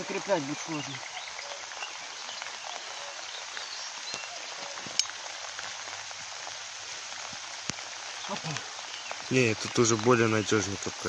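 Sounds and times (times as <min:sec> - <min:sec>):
light rain on pond water: 0:00.0 - 0:11.0.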